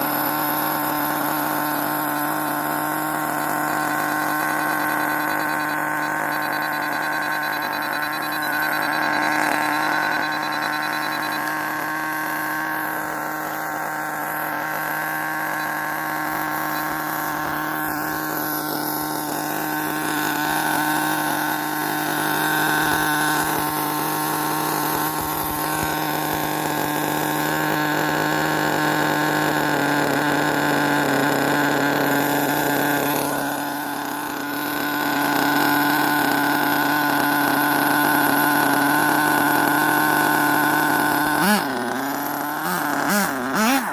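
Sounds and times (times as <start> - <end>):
rc car motor whine: 0.0 - 43.9.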